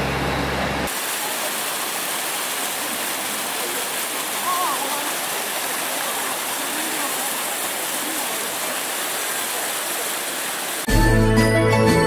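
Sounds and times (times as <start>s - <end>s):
stream flowing: 0.0s - 10.9s.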